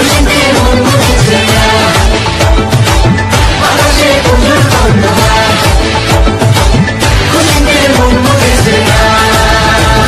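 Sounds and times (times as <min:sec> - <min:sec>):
festival song with steady beat: 0:00.0 - 0:10.0.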